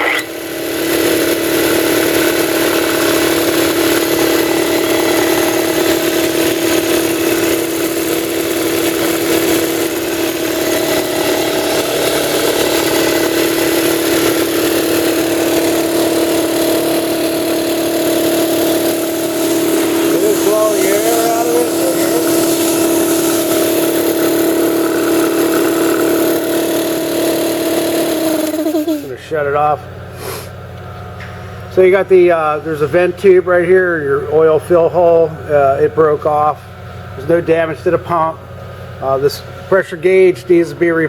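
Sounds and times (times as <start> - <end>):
air compressor droning: 0.0 - 41.0.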